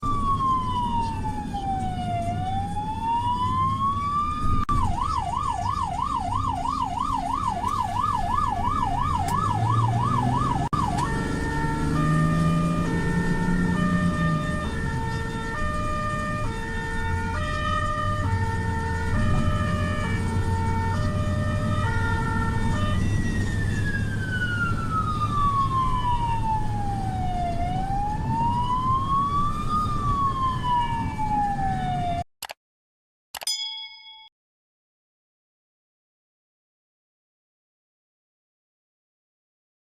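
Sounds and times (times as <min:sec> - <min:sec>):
low engine rumble: 0:00.0 - 0:32.0
ambulance siren wailing and yelping: 0:00.0 - 0:32.3.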